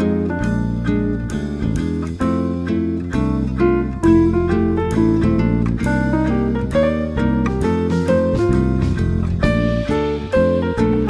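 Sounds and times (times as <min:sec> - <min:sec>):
bass line: 0:00.0 - 0:11.0
plucked guitar: 0:00.0 - 0:11.0.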